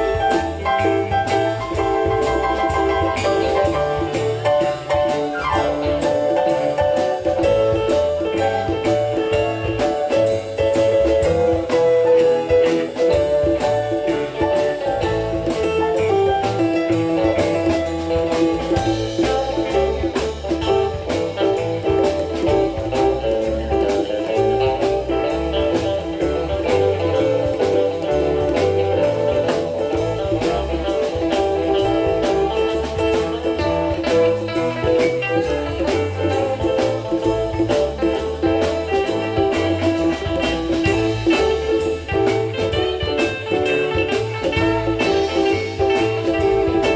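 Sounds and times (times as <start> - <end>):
bass line: 0.0 - 46.9
guitar lines: 0.0 - 46.9
steady drums: 0.0 - 46.9.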